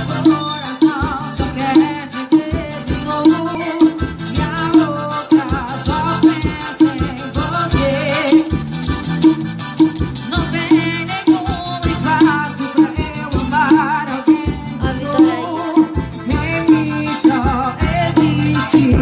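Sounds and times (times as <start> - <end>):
latin music with singing: 0.0 - 19.0.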